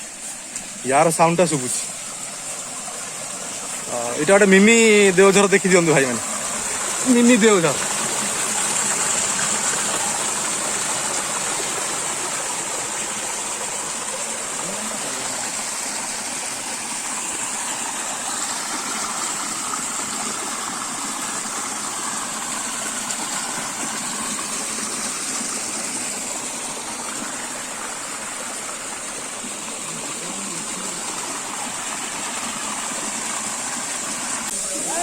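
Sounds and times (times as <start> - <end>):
waterfall pouring: 0.0 - 35.0.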